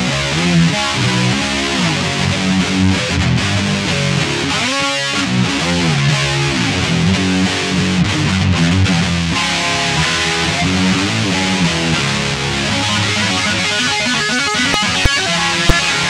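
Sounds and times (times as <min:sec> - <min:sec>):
guitar-led music: 0:00.0 - 0:16.0.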